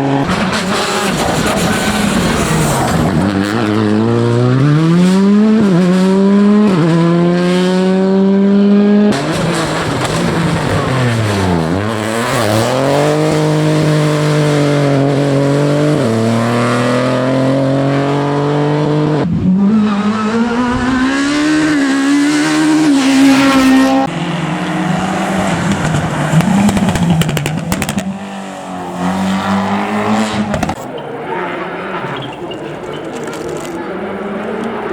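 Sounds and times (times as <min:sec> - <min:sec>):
rally car engines revving: 0:00.0 - 0:34.9.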